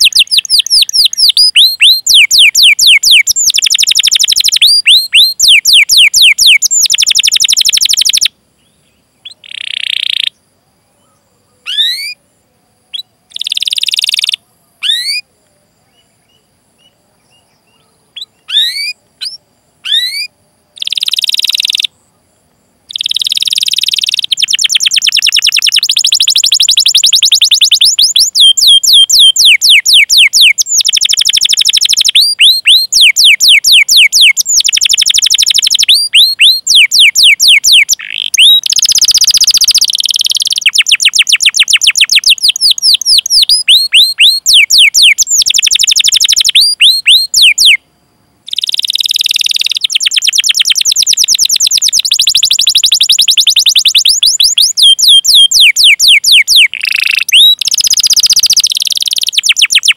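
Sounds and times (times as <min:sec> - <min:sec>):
canary singing: 0:00.0 - 0:10.4, 0:11.0 - 0:12.2, 0:12.8 - 0:15.3, 0:15.9 - 0:22.0, 0:22.9 - 0:47.8, 0:48.5 - 0:59.9.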